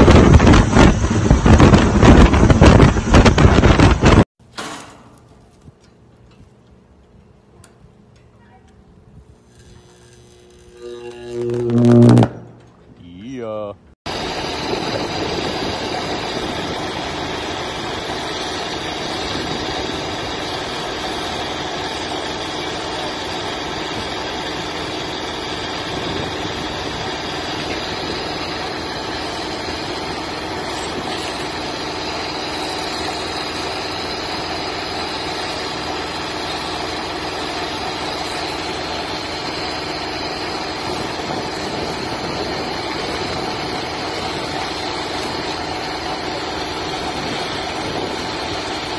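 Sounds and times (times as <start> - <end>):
engine drone: 0.0 - 4.3, 9.4 - 48.9.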